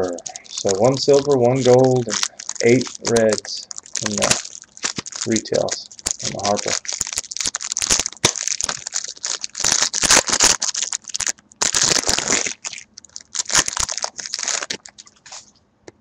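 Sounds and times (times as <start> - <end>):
wrappers tearing and crinkling: 0.0 - 15.5.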